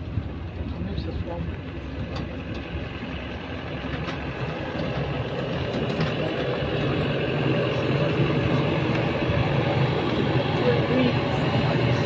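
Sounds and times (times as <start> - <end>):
road train engine running: 0.0 - 12.0
wheel and road noise: 0.0 - 12.0.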